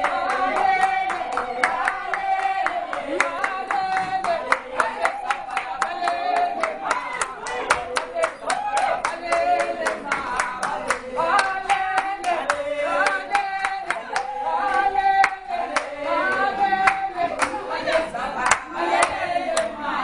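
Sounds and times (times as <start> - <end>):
group singing: 0.0 - 20.0
rhythmic hand clapping: 0.0 - 20.0.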